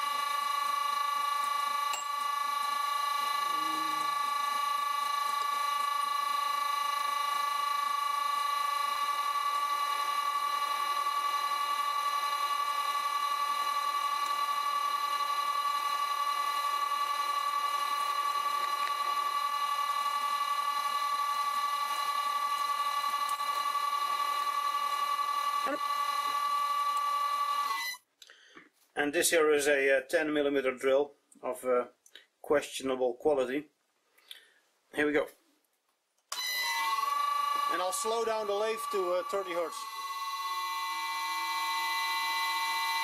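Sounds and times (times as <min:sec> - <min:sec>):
drill boring into metal: 0:00.0 - 0:28.0, 0:36.3 - 0:43.0
lathe high-pitched whine: 0:00.0 - 0:28.0, 0:36.4 - 0:43.0.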